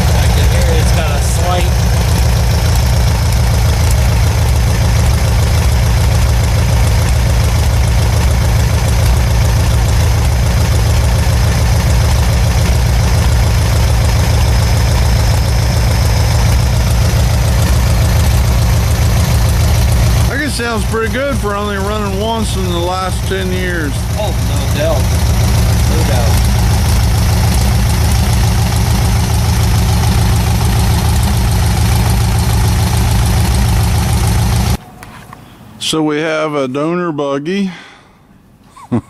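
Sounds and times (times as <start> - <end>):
air-cooled engine idling: 0.0 - 34.9.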